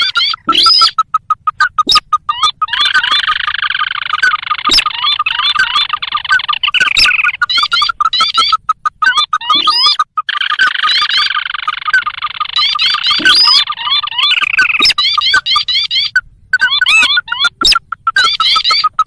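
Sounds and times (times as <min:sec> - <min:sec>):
bird chirps sweeping upward: 0:00.0 - 0:19.0
fast pulsing bird note: 0:00.0 - 0:19.0.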